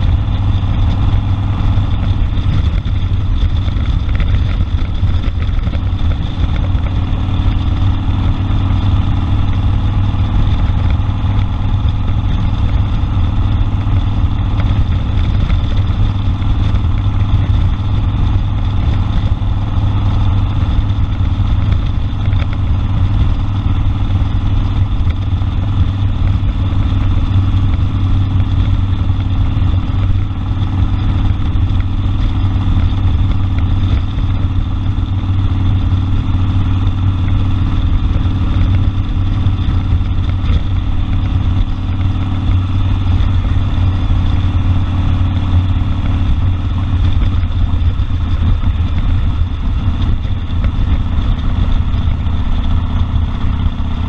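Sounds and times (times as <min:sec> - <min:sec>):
deep loud exhaust note: 0:00.0 - 0:54.0
motorcycle engine running: 0:00.0 - 0:54.0.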